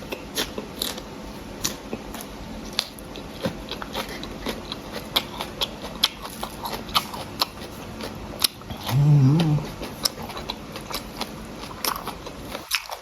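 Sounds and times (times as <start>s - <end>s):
person chewing food: 0.1s - 13.0s.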